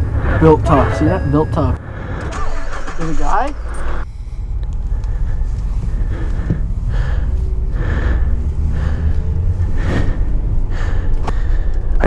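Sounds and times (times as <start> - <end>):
pickup engine and road rumble: 0.0 - 12.0.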